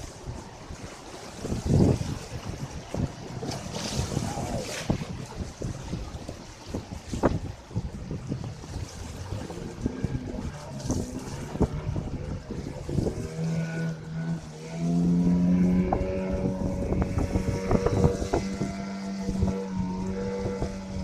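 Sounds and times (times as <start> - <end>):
motorboat engine running: 0.0 - 21.0
wind buffeting microphone: 0.0 - 21.0.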